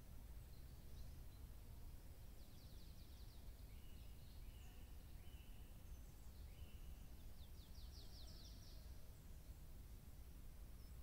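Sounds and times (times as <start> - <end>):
songbirds singing: 0.0 - 9.7, 10.7 - 11.0.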